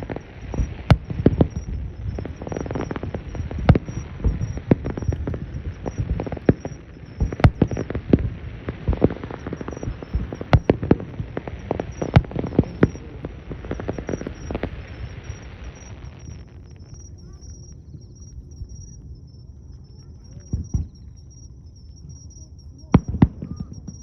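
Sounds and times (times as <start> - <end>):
fireworks bangs: 0.0 - 17.7, 20.0 - 21.1, 22.0 - 24.0
continuous low rumble: 0.0 - 24.0.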